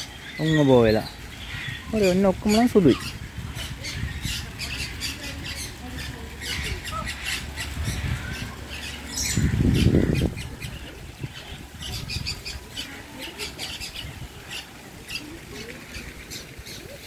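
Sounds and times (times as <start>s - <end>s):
caged birds squawking and chirping: 0.0s - 17.0s.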